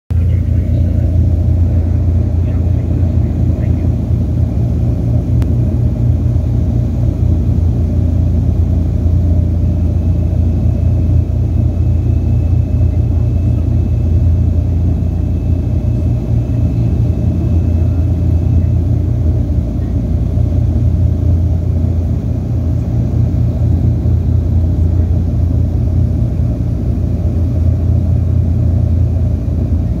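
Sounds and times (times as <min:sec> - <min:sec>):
propeller aircraft engines droning: 0:00.1 - 0:30.0.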